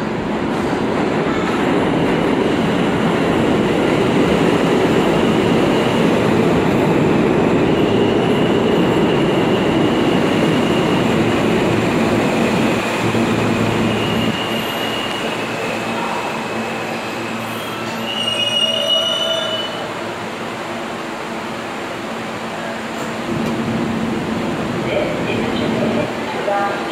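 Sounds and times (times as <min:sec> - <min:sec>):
subway train noise: 0:00.0 - 0:26.9.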